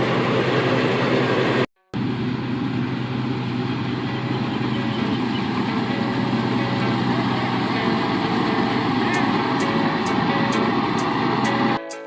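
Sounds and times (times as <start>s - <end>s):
diesel truck engine idling: 0.0s - 11.8s.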